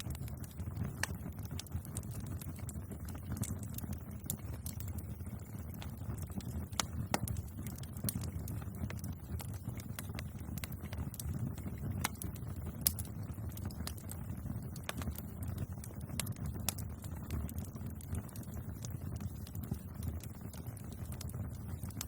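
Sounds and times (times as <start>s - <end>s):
bonfire crackling: 0.0s - 22.0s.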